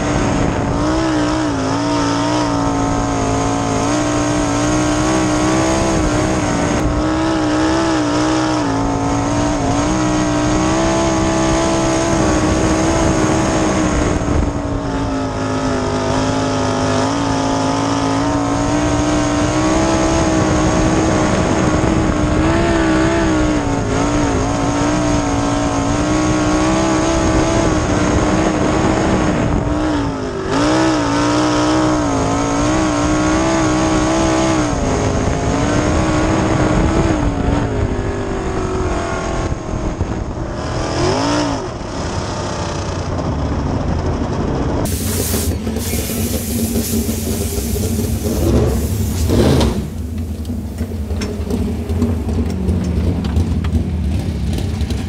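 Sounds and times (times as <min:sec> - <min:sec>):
race car engine droning: 0:00.0 - 0:55.0.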